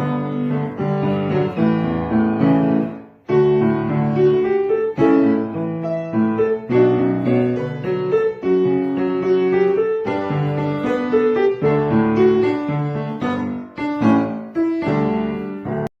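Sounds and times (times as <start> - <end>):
piano music: 0.0 - 15.9.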